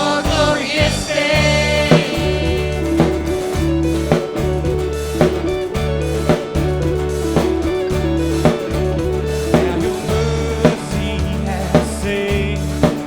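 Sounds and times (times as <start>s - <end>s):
drum kit steady beat: 0.0s - 13.0s
held low bass notes: 0.0s - 13.0s
sustained chords: 0.0s - 13.0s.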